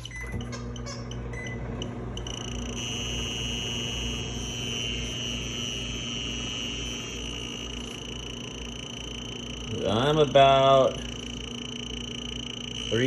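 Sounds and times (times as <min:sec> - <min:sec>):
microwave oven humming: 0:00.0 - 0:13.0
high-pitched alarm tone: 0:02.2 - 0:13.0.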